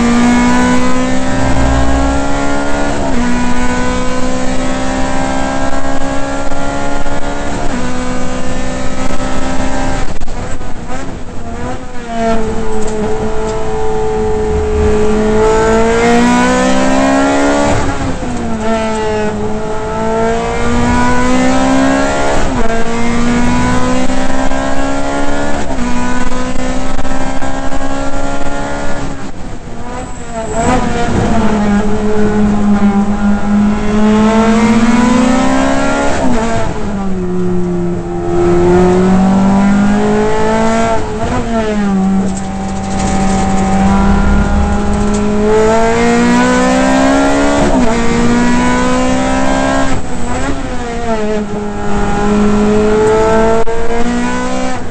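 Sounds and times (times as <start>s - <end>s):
race car engine revving: 0.0s - 10.1s, 10.8s - 29.0s, 30.1s - 54.9s.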